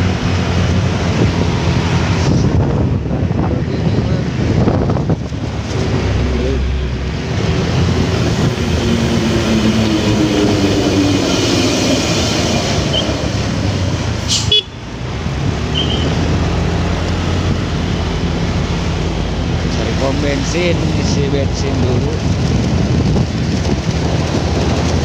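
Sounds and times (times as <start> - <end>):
road traffic: 0.0 - 25.0
wind noise on microphone: 0.0 - 25.0.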